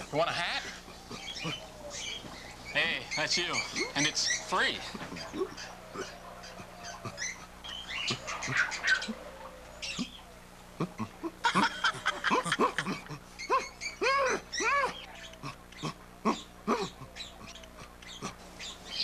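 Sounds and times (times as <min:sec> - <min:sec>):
ape-like hooting: 0:00.0 - 0:19.0.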